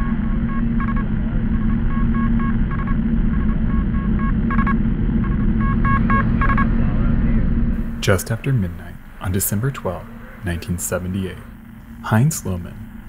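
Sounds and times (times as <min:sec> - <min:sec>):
low hum rumble and hiss: 0:00.0 - 0:13.0.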